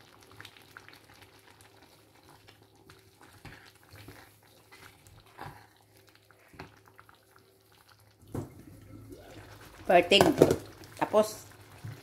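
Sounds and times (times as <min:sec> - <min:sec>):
wooden spoon stirring stew: 0:00.1 - 0:12.0.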